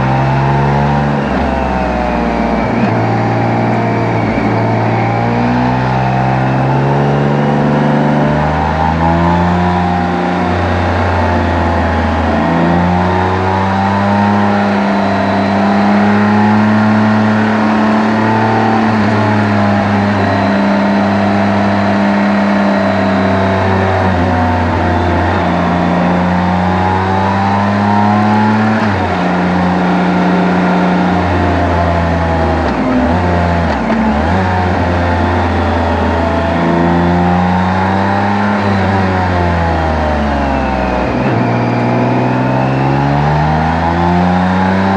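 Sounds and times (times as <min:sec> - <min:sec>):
motorcycle engine and exhaust: 0:00.0 - 0:44.9.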